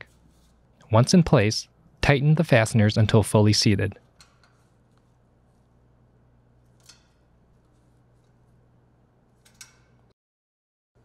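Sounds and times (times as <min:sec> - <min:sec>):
low steady hum: 0:00.0 - 0:10.1.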